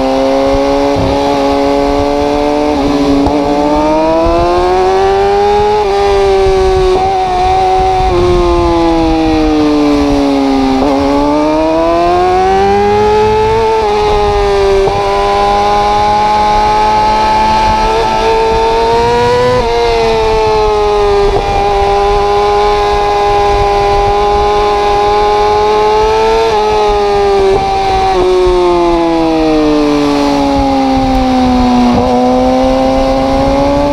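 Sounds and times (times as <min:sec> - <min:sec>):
motorcycle engine revving high: 0:00.0 - 0:33.9.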